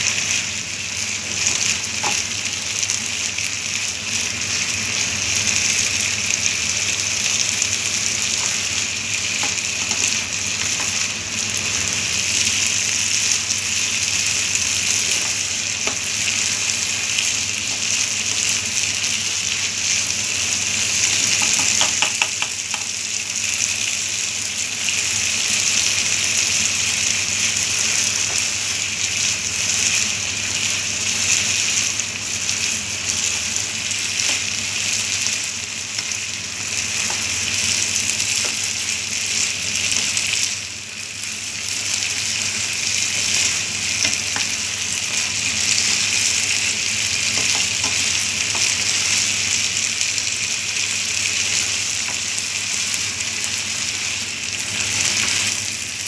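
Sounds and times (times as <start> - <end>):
food sizzling in frying pan: 0.0 - 56.0.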